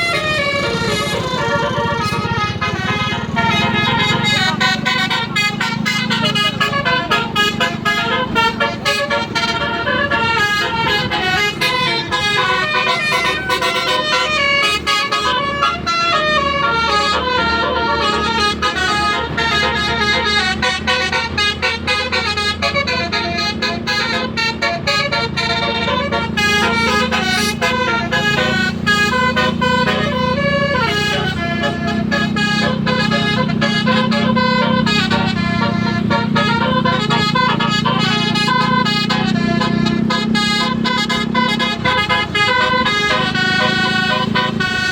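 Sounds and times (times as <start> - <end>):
steady low drone: 0.0 - 44.9
tuned bus horns playing melodies: 0.0 - 44.9.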